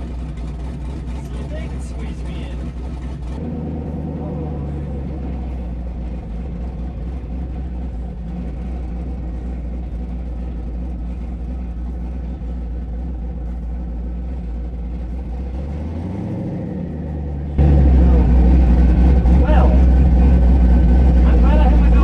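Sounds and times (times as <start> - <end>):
pickup engine rumbling: 0.0 - 22.0.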